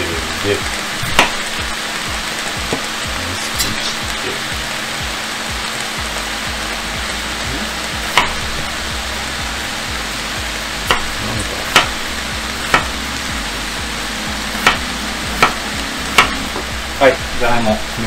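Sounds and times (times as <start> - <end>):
vegetables sizzling in a pot: 0.0 - 18.0.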